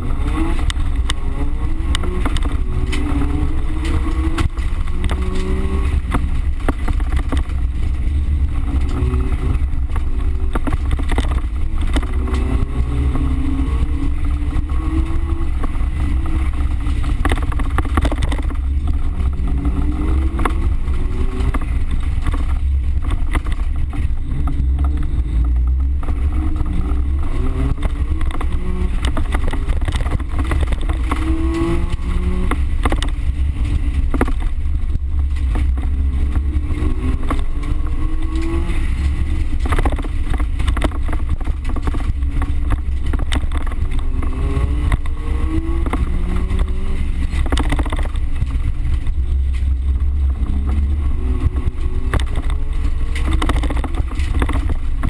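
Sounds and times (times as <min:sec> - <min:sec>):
low rumble from dirt track: 0:00.0 - 0:55.0
race car engine revving: 0:00.0 - 0:55.0
sharp knocks and rattles: 0:00.0 - 0:55.0.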